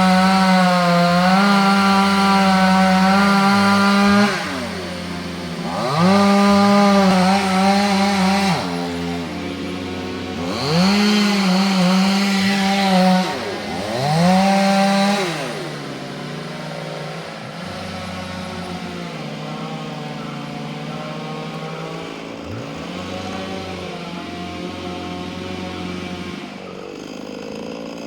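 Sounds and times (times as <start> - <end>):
chainsaw revving and idling: 0.0 - 28.0.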